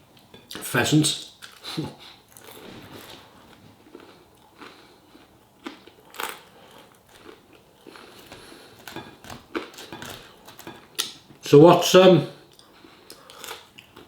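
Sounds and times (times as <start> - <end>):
person chewing food: 1.4 - 11.4, 12.5 - 14.0.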